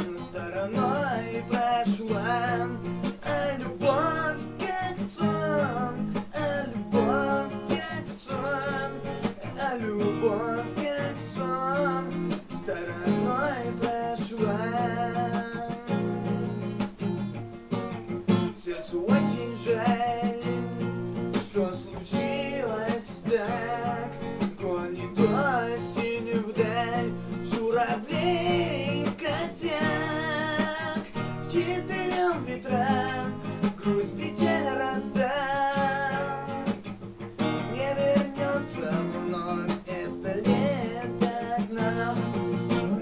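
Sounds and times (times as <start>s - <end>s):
strummed acoustic guitar: 0.0s - 43.0s.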